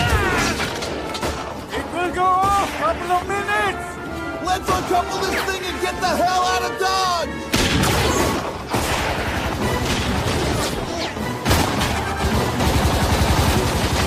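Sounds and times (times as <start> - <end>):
orchestral music: 0.0 - 14.0.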